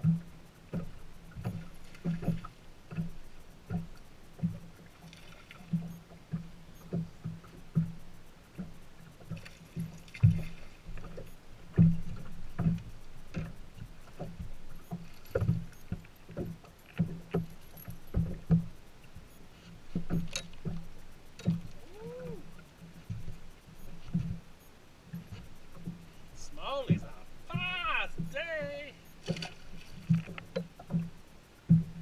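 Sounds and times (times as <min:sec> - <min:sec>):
gear knocking in a boat: 0:00.0 - 0:32.0.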